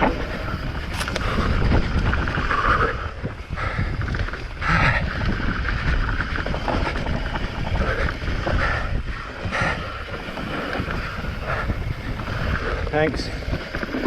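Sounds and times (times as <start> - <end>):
bike rattling over rough ground: 0.0 - 14.0
wind rushing over microphone: 0.0 - 14.0.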